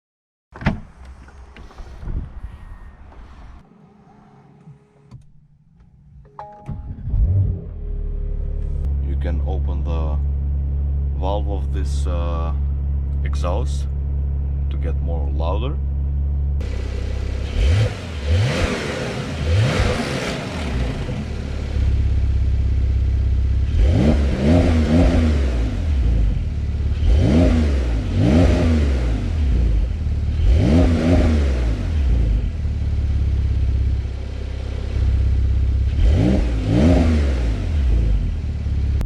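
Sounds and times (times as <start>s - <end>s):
car engine revving: 1.2s - 39.0s.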